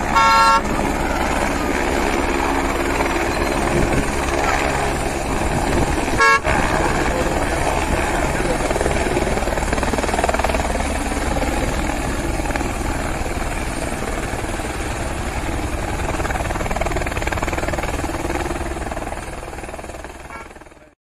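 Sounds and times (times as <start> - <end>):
helicopter rotor beating: 0.0 - 21.0.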